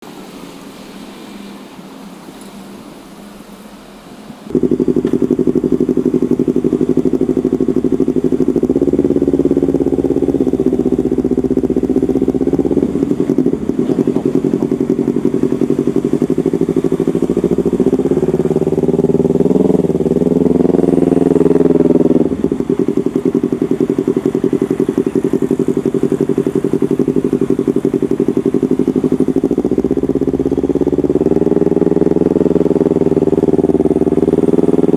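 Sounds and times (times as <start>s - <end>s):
motorcycle engine idling and revving: 4.5s - 34.9s.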